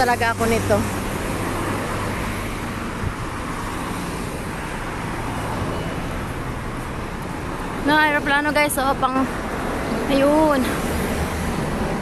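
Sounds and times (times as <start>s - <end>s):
cars passing on street: 0.0s - 12.0s.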